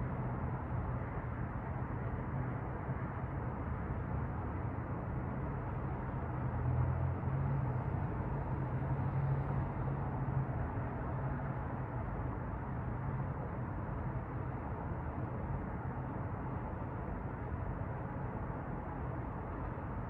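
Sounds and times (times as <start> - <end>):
muffled traffic hum: 0.0 - 20.0.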